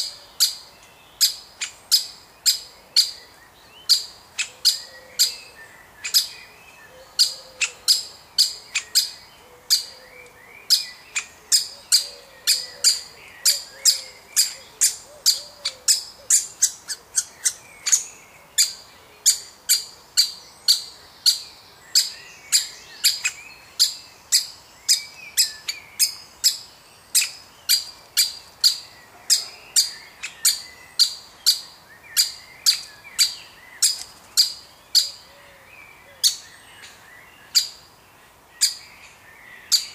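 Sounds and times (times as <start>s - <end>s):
woodpecker calling: 0.0s - 6.3s, 6.9s - 37.9s, 38.6s - 38.9s.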